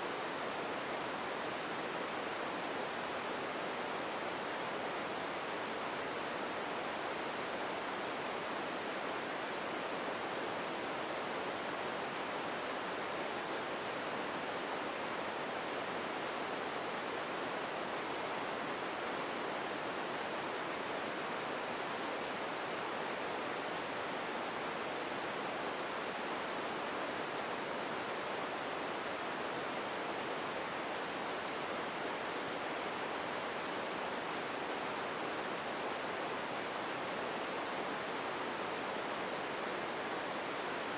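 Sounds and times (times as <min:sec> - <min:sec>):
steady ambience hiss: 0:00.0 - 0:40.9.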